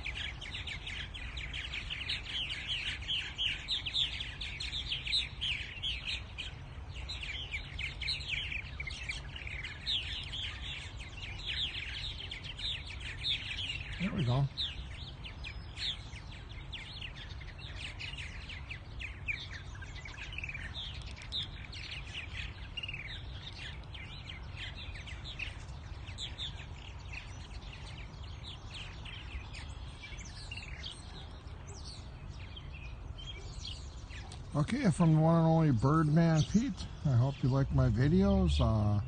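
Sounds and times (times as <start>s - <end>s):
birds chirping and chattering: 0.0s - 39.0s.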